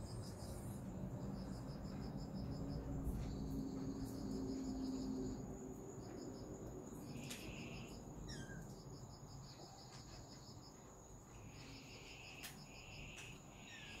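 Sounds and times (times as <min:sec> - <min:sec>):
crickets chirping: 0:00.0 - 0:14.0
insects trilling: 0:00.0 - 0:14.0
lower insect trill: 0:00.0 - 0:14.0.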